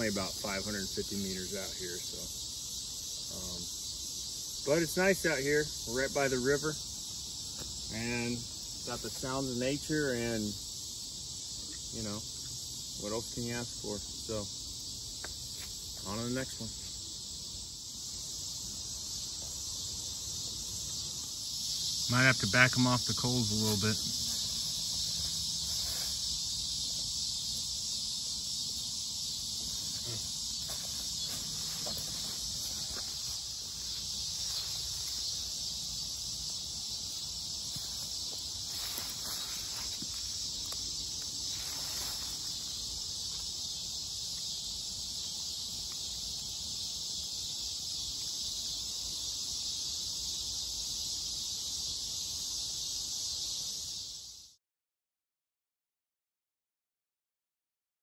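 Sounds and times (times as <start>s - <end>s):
insects trilling: 0.0s - 54.6s.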